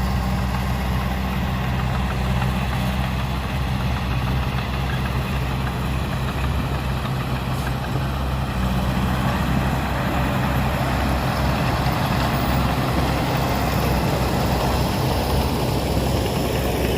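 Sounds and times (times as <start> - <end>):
diesel engine of heavy machinery: 0.0 - 16.9.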